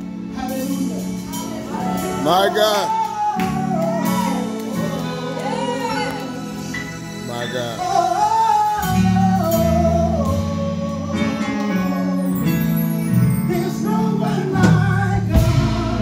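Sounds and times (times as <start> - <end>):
band bass notes: 0.0 - 16.0
person singing into a microphone: 0.3 - 6.8, 7.4 - 16.0.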